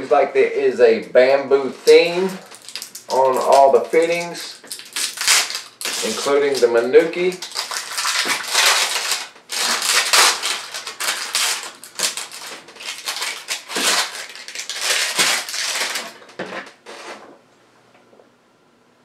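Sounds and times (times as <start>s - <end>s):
plastic wrapping crinkling: 1.7s - 17.2s.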